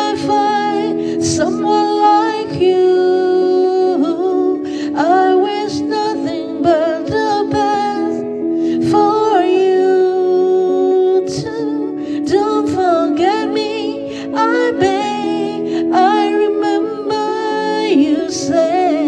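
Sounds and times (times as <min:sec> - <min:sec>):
sustained musical accompaniment: 0:00.0 - 0:19.0
woman singing: 0:00.0 - 0:19.0.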